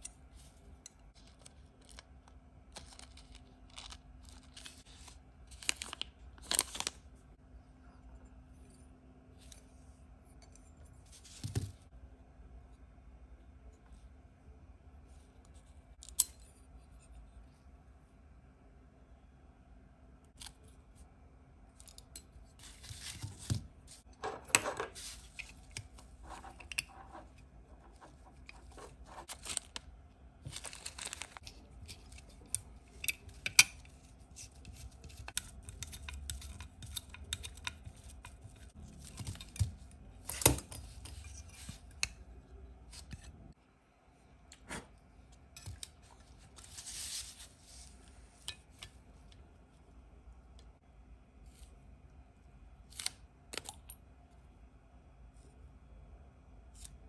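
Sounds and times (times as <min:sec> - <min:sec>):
faint background hum: 0:00.0 - 0:57.0.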